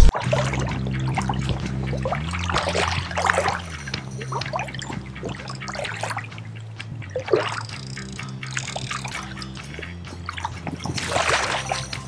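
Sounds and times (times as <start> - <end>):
fish splashing in water: 0.0 - 12.0
flowing stream: 0.0 - 12.0.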